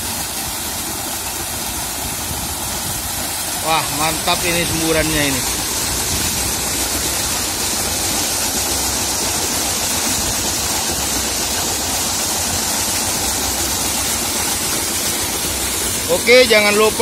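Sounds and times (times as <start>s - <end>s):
water gushing into concrete channel: 0.0s - 17.0s
diesel pump engine rumble: 0.1s - 17.0s.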